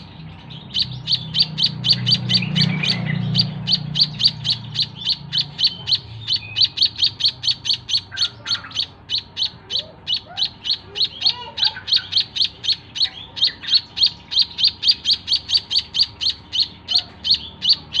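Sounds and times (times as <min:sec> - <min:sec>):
bird chick chirping rapidly: 0:00.0 - 0:18.0.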